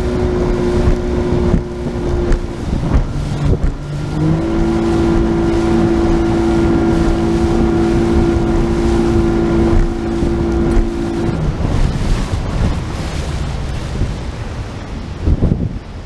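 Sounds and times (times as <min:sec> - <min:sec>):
boat motor whining: 0:00.0 - 0:15.4
water rushing past hull: 0:00.0 - 0:16.0
wind buffeting microphone: 0:00.0 - 0:16.0.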